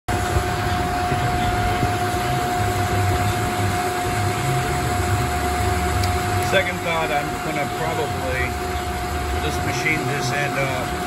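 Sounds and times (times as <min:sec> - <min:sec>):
metal lathe cutting steel: 0:00.1 - 0:11.0.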